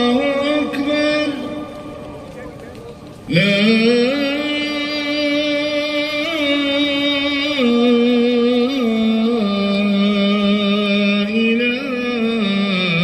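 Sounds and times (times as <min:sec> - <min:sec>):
man chanting call to prayer: 0:00.0 - 0:13.0.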